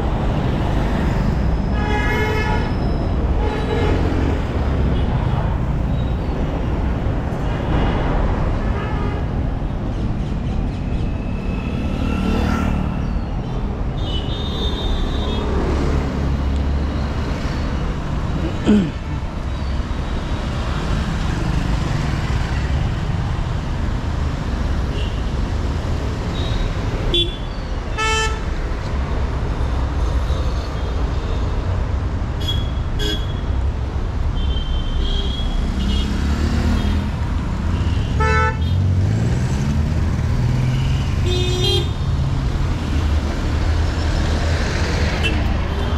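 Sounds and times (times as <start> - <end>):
traffic rumble: 0.0 - 45.9.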